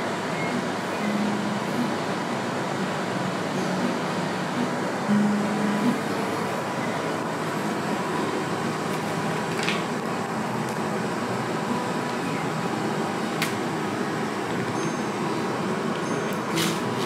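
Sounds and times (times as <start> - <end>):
room hum and hiss: 0.0 - 17.0.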